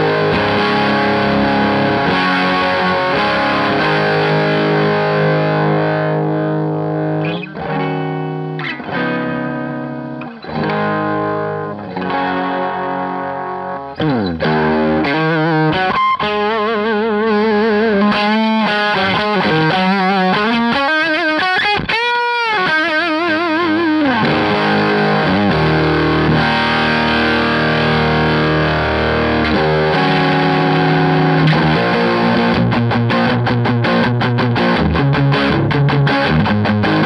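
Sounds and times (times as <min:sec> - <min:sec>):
overdriven electric guitar: 0:00.0 - 0:37.0.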